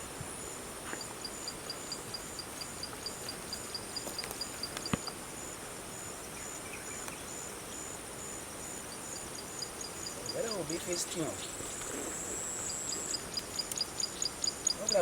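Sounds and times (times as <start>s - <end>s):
constant high hiss: 0.0s - 15.0s
insects chirping: 0.0s - 15.0s.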